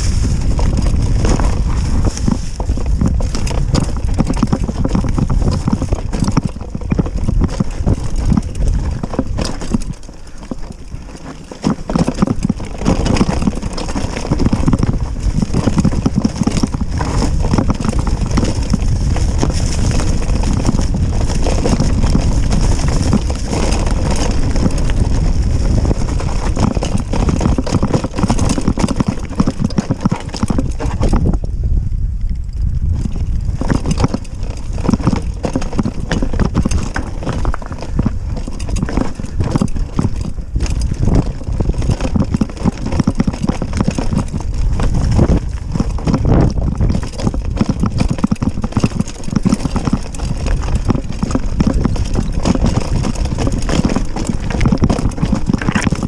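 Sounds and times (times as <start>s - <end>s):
mountain bike rattling downhill: 0.0s - 56.0s.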